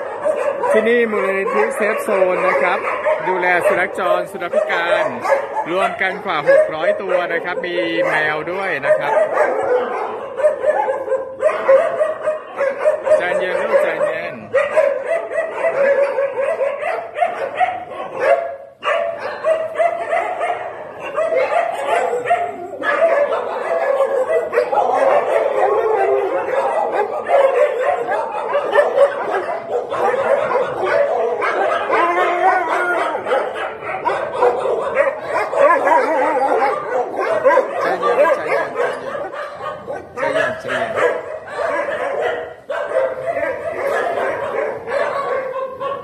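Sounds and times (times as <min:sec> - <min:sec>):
dogs barking: 0:00.0 - 0:46.0.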